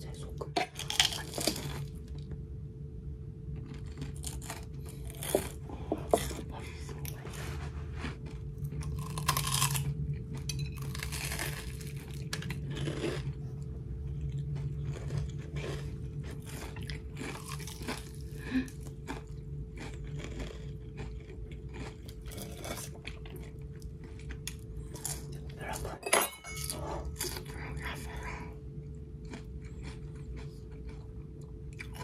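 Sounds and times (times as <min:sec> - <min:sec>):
low hum: 0:00.0 - 0:32.0
crunching fried food: 0:00.7 - 0:02.2, 0:03.4 - 0:25.7, 0:28.8 - 0:32.0.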